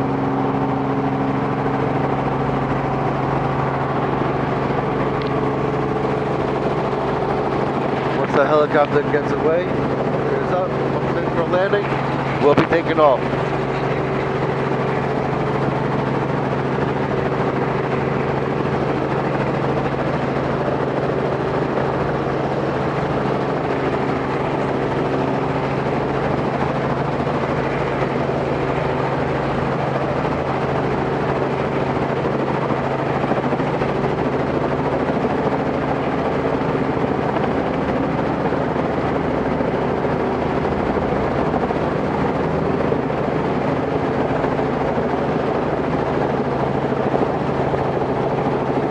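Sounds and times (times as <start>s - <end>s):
helicopter engine and rotor: 0.0s - 48.9s.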